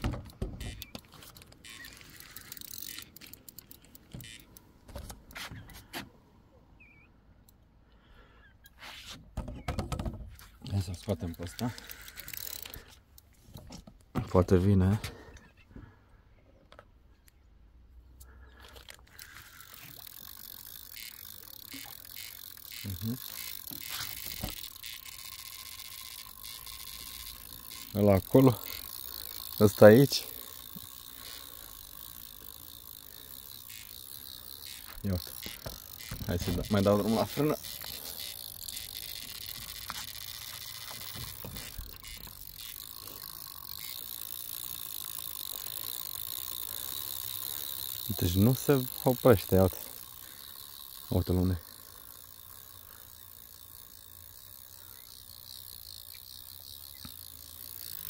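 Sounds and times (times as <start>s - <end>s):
fishing reel ratcheting: 0.0s - 5.8s, 9.7s - 13.5s, 18.2s - 58.0s.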